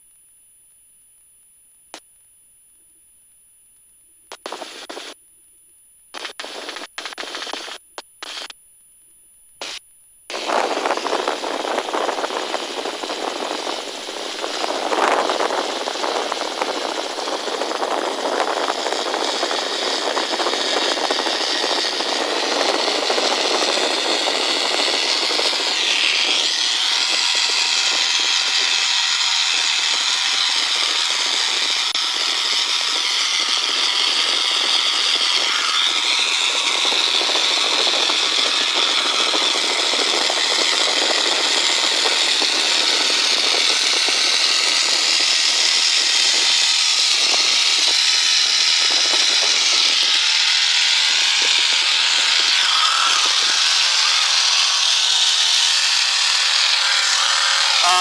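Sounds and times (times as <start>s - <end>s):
helicopter turbine whine: 6.1s - 8.5s, 9.6s - 58.0s.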